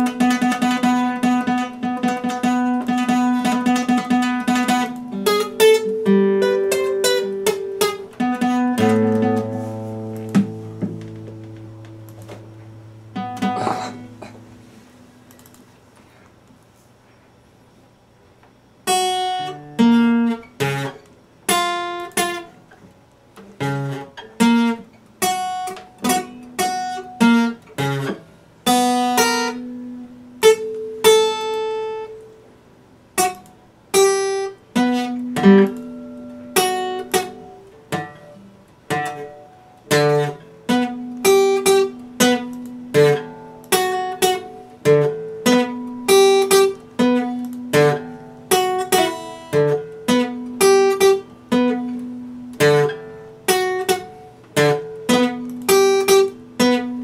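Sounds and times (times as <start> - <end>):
acoustic guitar playing: 0.0 - 16.0, 18.8 - 57.0.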